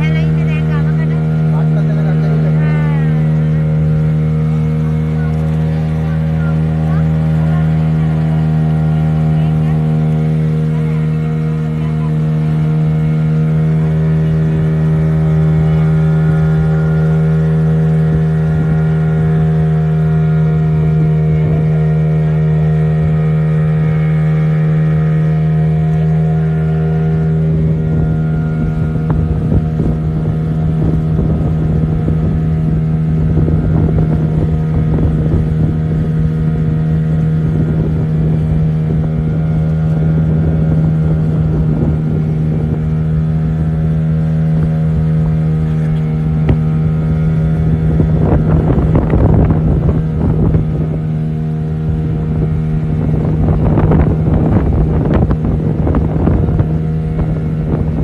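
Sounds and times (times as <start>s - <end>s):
motorboat engine running: 0.0s - 58.0s
water rushing past hull: 0.0s - 58.0s
wind buffeting microphone: 0.0s - 58.0s.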